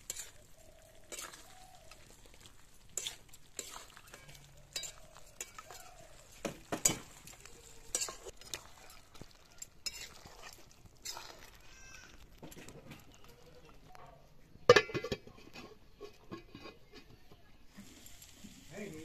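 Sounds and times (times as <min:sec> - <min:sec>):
metal spatula scraping a pot: 0:00.0 - 0:13.4, 0:14.7 - 0:18.1.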